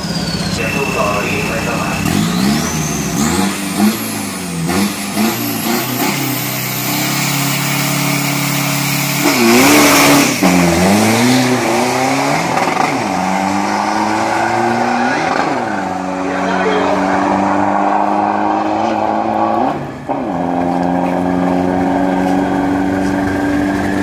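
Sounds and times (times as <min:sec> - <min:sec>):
diesel engine revving: 0:00.0 - 0:24.0.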